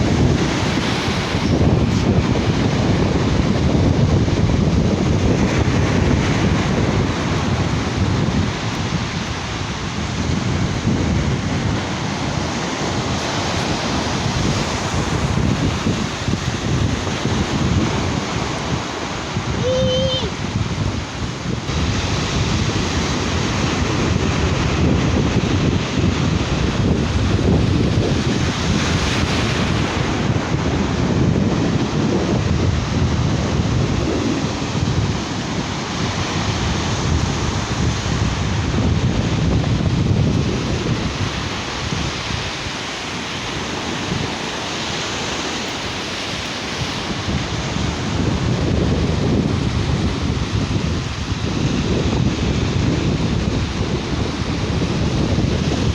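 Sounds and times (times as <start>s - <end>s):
sea waves breaking: 0.0s - 55.9s
wind buffeting microphone: 0.0s - 55.9s.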